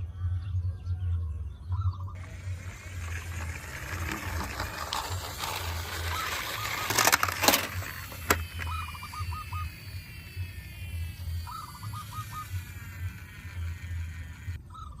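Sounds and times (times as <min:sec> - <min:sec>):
toy vehicles rolling and clattering: 0:02.2 - 0:14.6.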